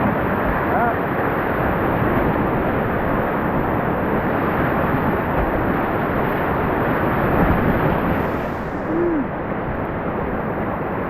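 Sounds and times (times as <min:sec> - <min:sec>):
river whitewater rushing: 0:00.0 - 0:11.0.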